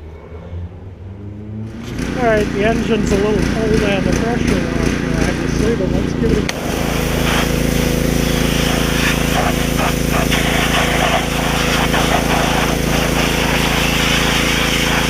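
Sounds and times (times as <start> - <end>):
pressure washer spraying water: 1.7 - 15.0.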